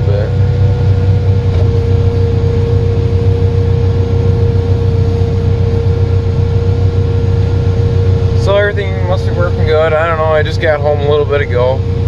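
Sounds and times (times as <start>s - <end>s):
constant high whine: 0.0s - 12.0s
tractor engine droning: 0.0s - 12.0s.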